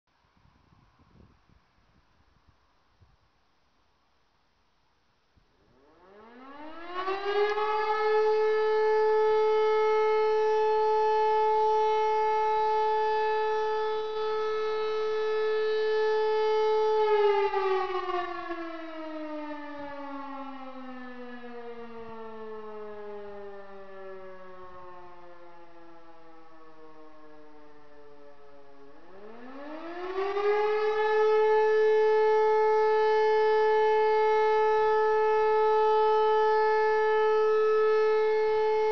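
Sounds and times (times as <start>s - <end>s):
motor siren wailing: 5.6s - 38.9s.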